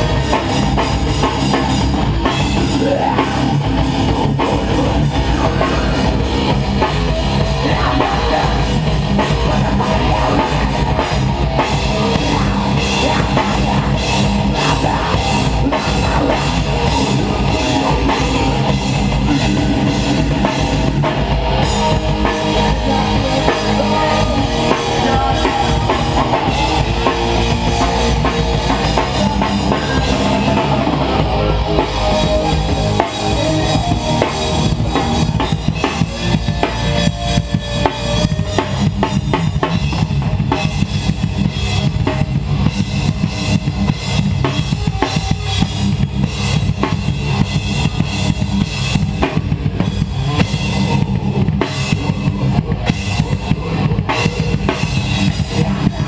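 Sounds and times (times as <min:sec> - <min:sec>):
drum kit: 0:00.0 - 0:56.0
rock band playing live: 0:00.0 - 0:56.0.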